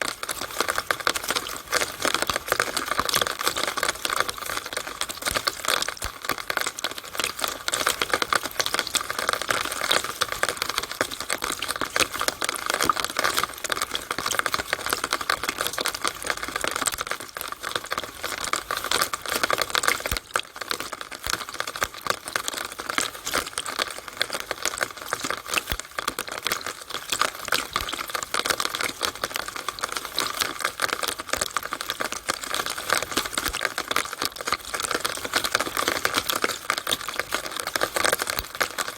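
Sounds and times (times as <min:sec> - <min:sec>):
rainwater dripping in downspout: 0:00.0 - 0:38.9.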